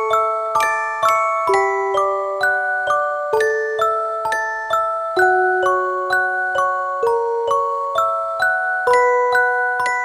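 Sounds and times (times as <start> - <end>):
bell-like music: 0.0 - 10.0.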